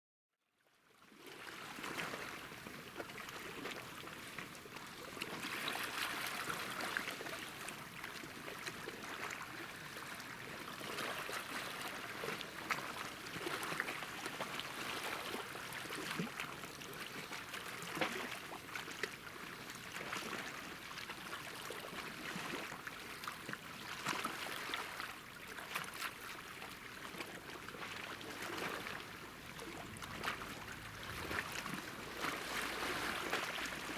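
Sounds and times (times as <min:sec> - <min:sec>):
small waves lapping at shore: 0:00.8 - 0:33.9.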